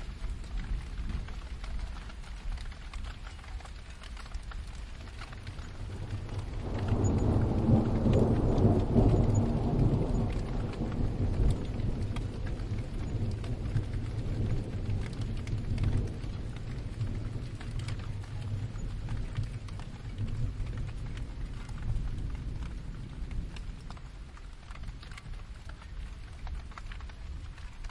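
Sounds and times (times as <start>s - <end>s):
steady rain: 0.0s - 27.9s
thunder rumbling: 0.0s - 27.9s.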